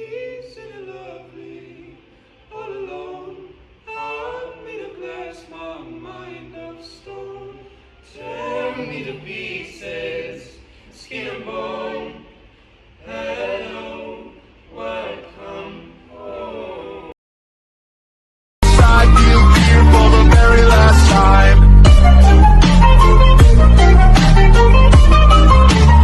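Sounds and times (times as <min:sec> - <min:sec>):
choir singing: 0:00.0 - 0:17.2, 0:18.6 - 0:26.0.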